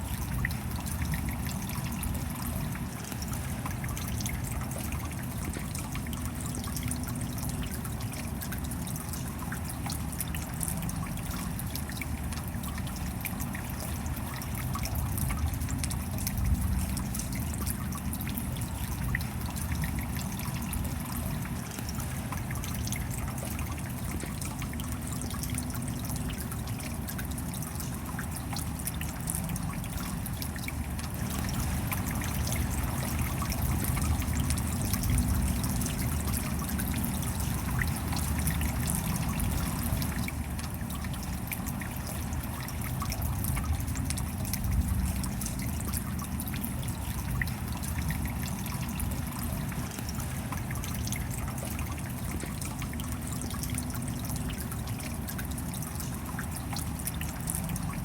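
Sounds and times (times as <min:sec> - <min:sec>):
steady rain: 0:00.0 - 0:58.0
water trickling and dripping: 0:00.0 - 0:58.0.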